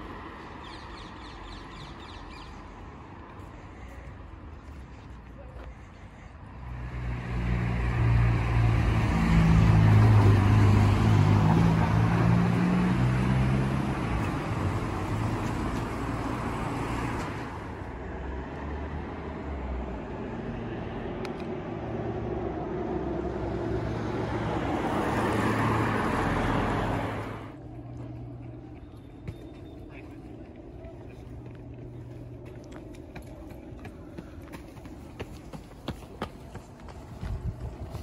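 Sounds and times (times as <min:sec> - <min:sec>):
vehicle engine hum and tyre noise: 0:00.0 - 0:38.0.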